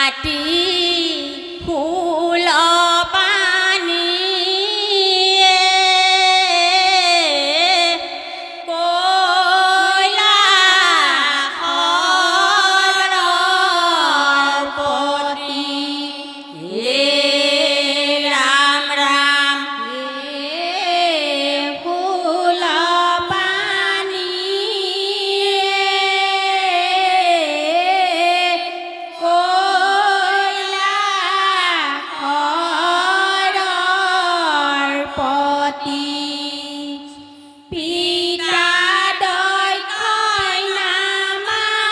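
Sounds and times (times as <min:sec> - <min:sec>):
group of women singing: 0:00.0 - 0:41.9.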